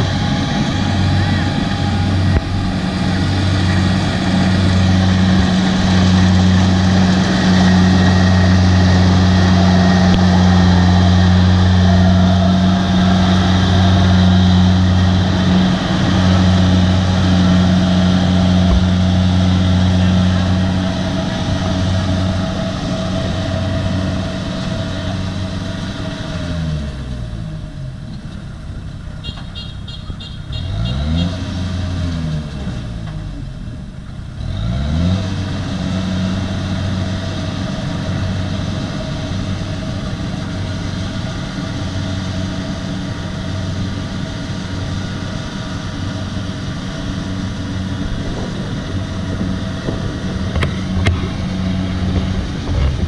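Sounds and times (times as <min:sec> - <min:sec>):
combine harvester engine running: 0:00.0 - 0:53.0.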